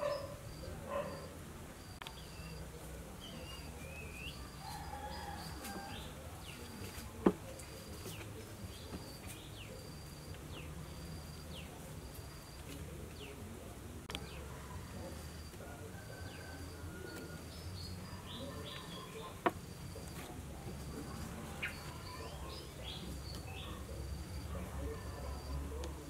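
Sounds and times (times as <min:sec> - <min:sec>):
birds chirping: 0:00.0 - 0:26.0
steady low background noise: 0:00.0 - 0:26.0.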